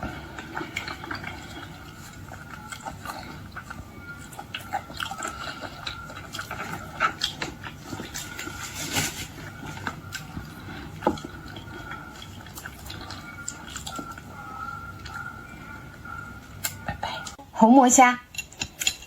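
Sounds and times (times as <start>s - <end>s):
wet chewing of shrimp: 0.0s - 17.4s.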